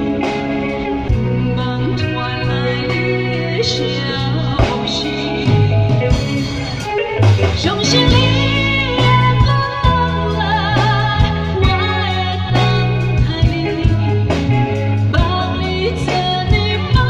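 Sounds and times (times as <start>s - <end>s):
musical accompaniment with bass: 0.0s - 17.0s
woman singing: 1.4s - 5.8s, 6.6s - 17.0s.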